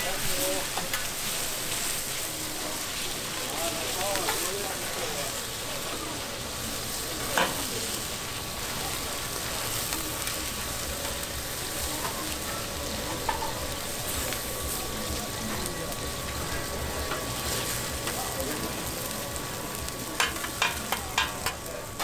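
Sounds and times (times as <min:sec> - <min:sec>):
noodles sizzling on griddle: 0:00.0 - 0:22.0.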